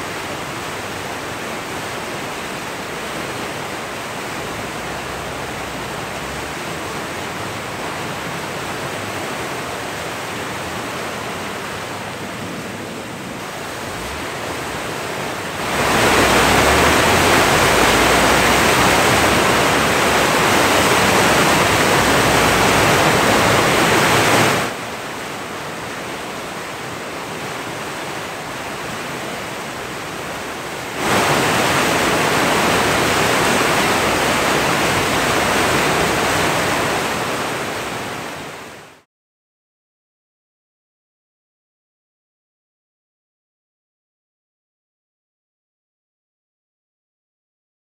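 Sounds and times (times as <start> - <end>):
whitewater river rushing: 0.0 - 39.0.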